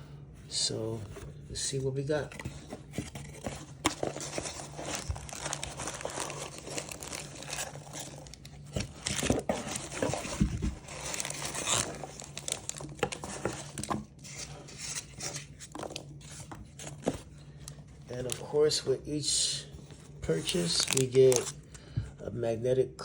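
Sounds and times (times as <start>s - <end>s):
packaging crinkling and rustling: 2.1s - 18.8s, 19.8s - 21.8s.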